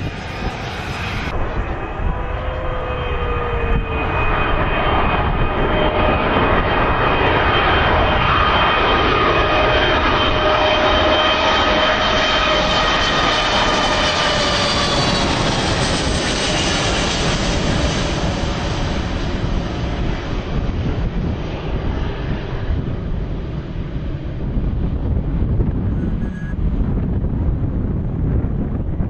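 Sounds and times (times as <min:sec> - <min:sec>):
jet engines passing overhead: 0:00.0 - 0:29.0.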